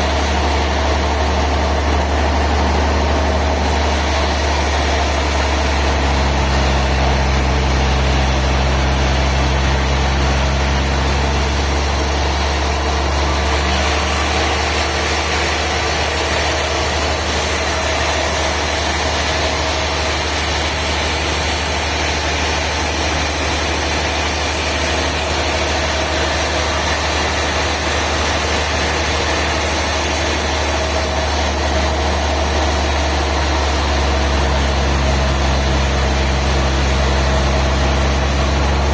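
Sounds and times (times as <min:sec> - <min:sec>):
engine droning steadily: 0:00.0 - 0:38.9.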